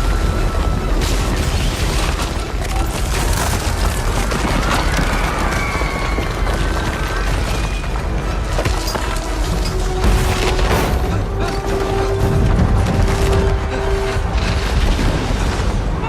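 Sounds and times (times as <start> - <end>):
crashing debris: 0.0 - 16.0
deep rumble: 0.0 - 16.0
film score: 0.0 - 16.0.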